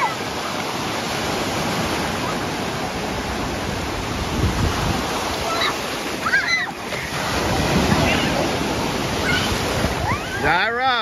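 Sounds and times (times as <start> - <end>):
deep rumble of surf: 0.0 - 11.0
waves breaking in shallow water: 0.0 - 11.0.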